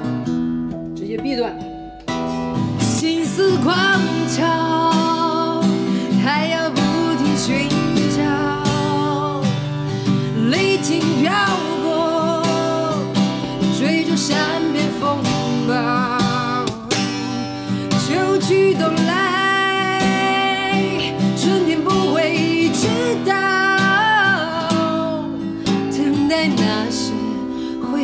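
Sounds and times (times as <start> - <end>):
strummed acoustic guitar: 0.0 - 28.0
woman singing pop ballad: 2.2 - 28.0.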